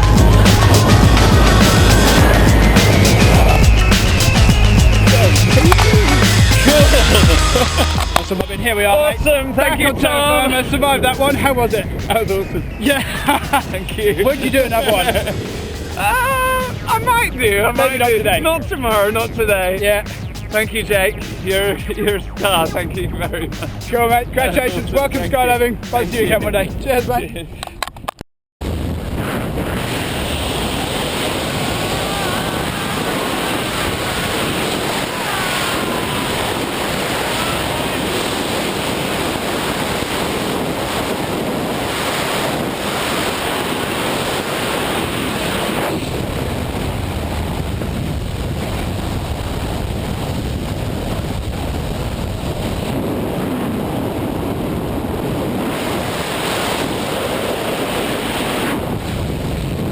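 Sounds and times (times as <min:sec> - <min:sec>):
wind buffeting microphone: 0:00.0 - 0:28.0, 0:28.6 - 0:59.9.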